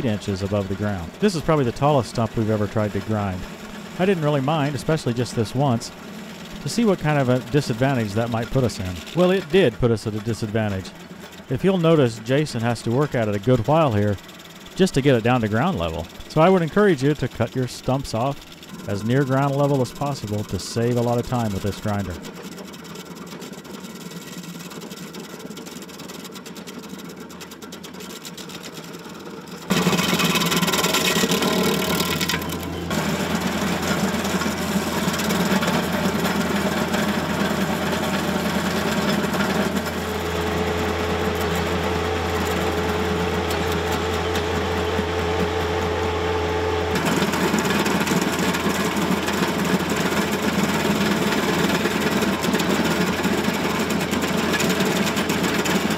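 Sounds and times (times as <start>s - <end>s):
stump grinder chewing wood: 0.0s - 55.9s
tractor engine under load: 0.0s - 55.9s.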